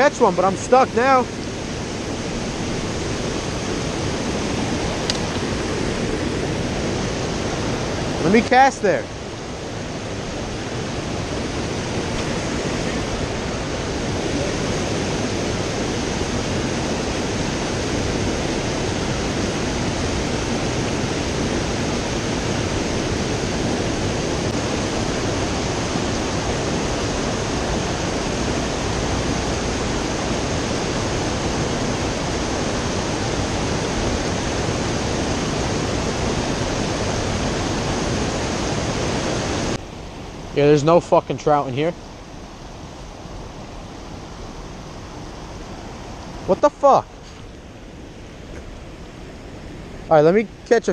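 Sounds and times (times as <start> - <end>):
creek rapids rushing over rocks: 0.0 - 50.9.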